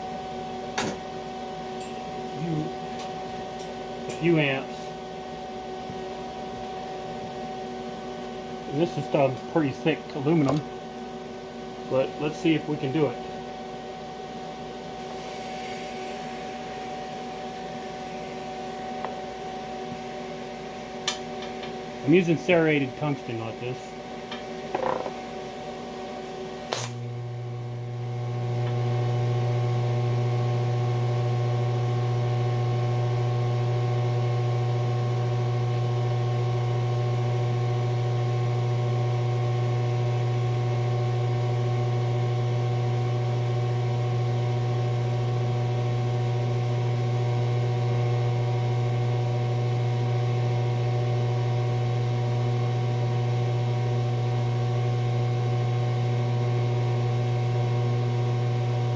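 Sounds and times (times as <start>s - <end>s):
welder humming: 5.8s - 13.5s, 14.9s - 25.6s, 26.6s - 58.9s.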